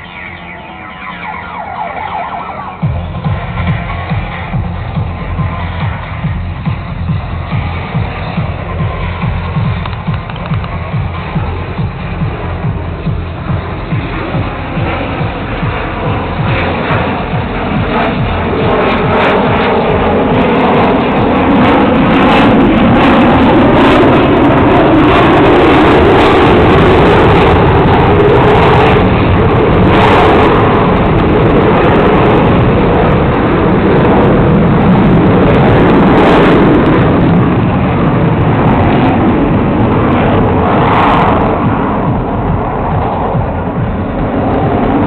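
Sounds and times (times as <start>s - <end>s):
jet engine rumble: 0.0s - 45.0s.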